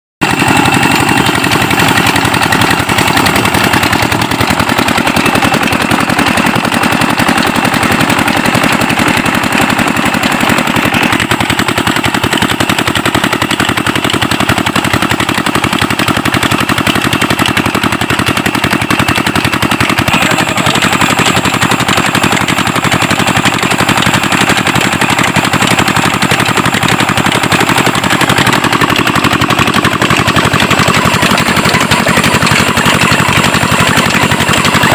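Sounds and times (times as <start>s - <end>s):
diesel engine chugging: 0.2s - 34.9s.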